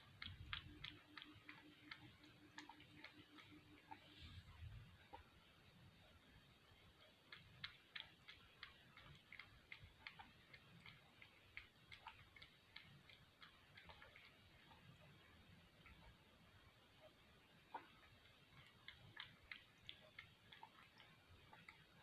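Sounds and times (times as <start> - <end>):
cat lapping milk: 0.0 - 22.0.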